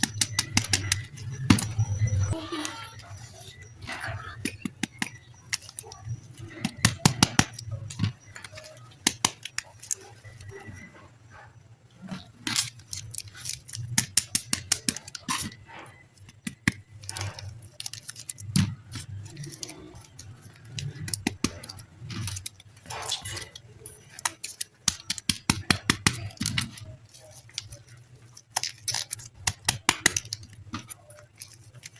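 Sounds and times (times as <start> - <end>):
packaging crinkling and clicking: 0.0 - 10.9, 12.0 - 31.9.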